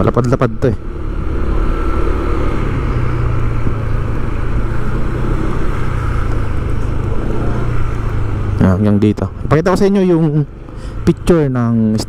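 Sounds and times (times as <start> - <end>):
street traffic noise: 0.0 - 12.0
vehicle engine running: 0.0 - 12.0.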